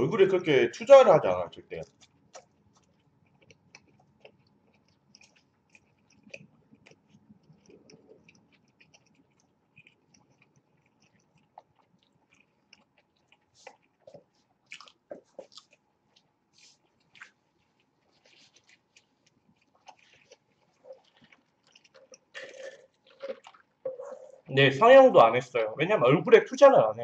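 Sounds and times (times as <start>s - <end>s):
chewing with wet mouth smacks: 1.7s - 24.5s.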